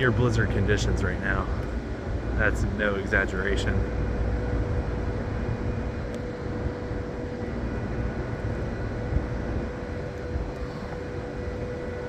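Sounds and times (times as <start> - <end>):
faint steady hum: 0.0 - 12.0
gusty wind rumbling on microphone: 0.0 - 12.0.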